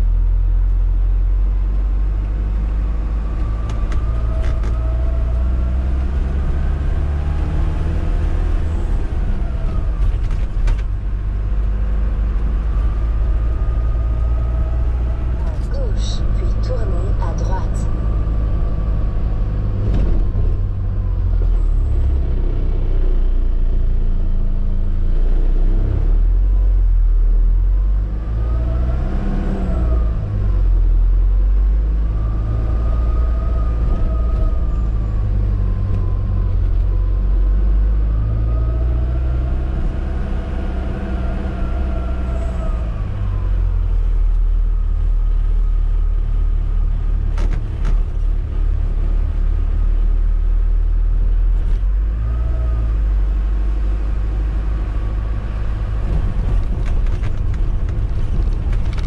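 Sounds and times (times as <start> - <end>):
motorhome engine and road rumble: 0.0 - 59.0.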